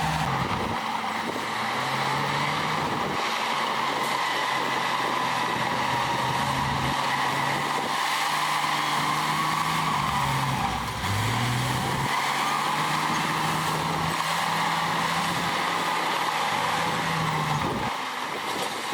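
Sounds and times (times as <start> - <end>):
heavy diesel engine under load: 0.0 - 18.9.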